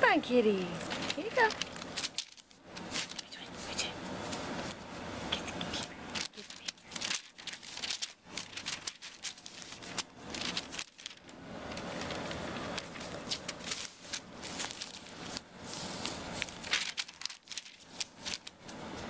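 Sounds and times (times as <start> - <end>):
glossy paper rustling and crinkling: 0.4 - 19.0
sharp paper crackles: 0.8 - 4.8, 5.4 - 19.0.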